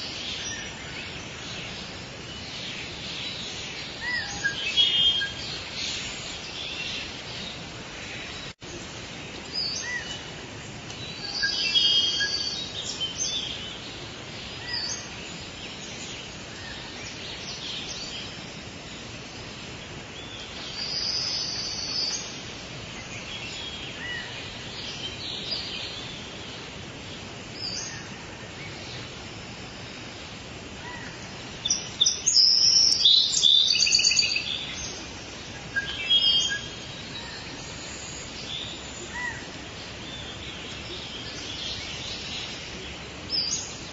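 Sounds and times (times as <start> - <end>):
birds calling and chirping: 0.0 - 43.9
forest ambience hiss: 0.0 - 43.9.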